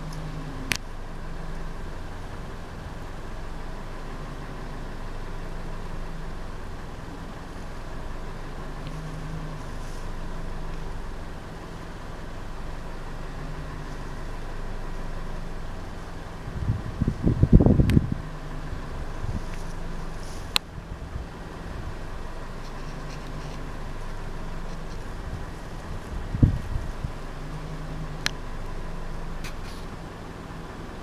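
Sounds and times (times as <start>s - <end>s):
faint steady whine: 0.0s - 31.0s
vehicle engine idling: 0.0s - 31.0s.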